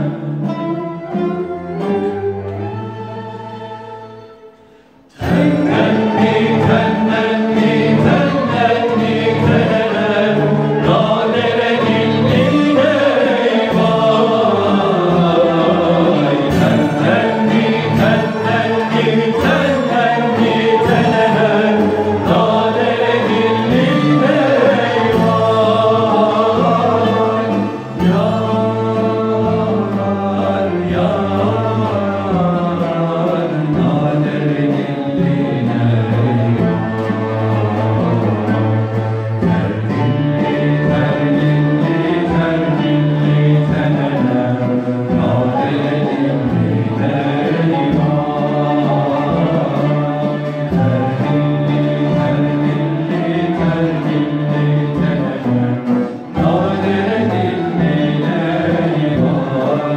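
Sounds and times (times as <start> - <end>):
cello: 0.0 - 59.9
oud: 0.0 - 59.9
mixed chorus singing: 1.5 - 59.9.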